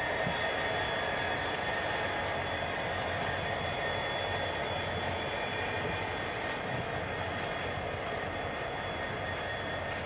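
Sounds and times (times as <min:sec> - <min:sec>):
diesel locomotives rumbling: 0:00.0 - 0:10.0.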